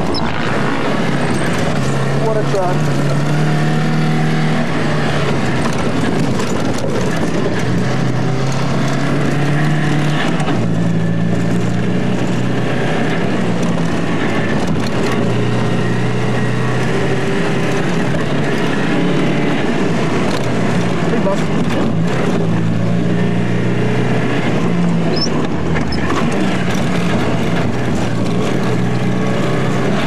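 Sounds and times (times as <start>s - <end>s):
car engine under load: 0.0s - 30.0s
road and body noise: 0.0s - 30.0s.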